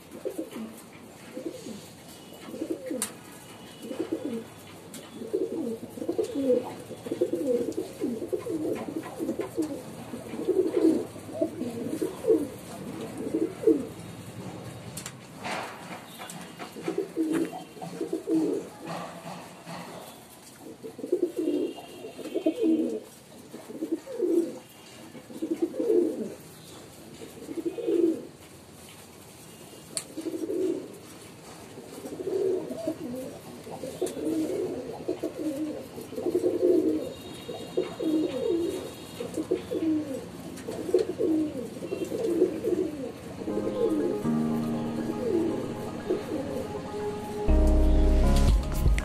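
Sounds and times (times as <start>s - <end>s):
pigeons cooing: 0.0s - 14.1s, 15.5s - 19.8s, 20.6s - 28.5s, 30.0s - 48.3s.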